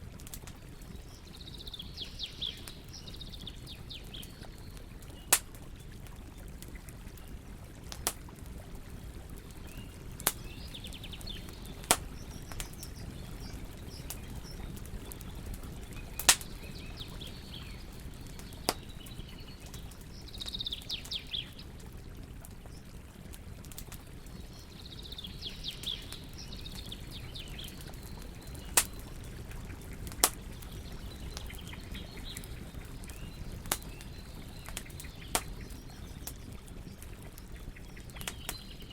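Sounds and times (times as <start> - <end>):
wood fire crackling and popping: 0.0 - 38.9
small birds chirping: 0.1 - 38.9.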